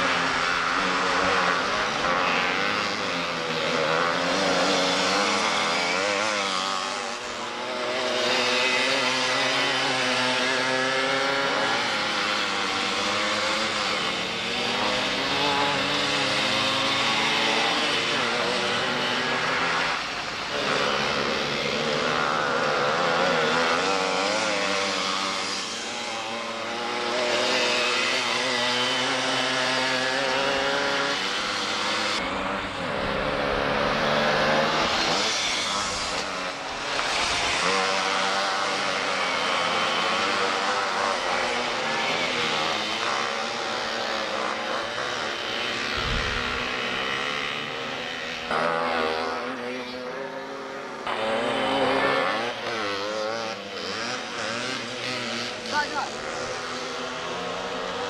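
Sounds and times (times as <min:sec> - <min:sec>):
go-kart engines racing: 0:00.0 - 0:58.0.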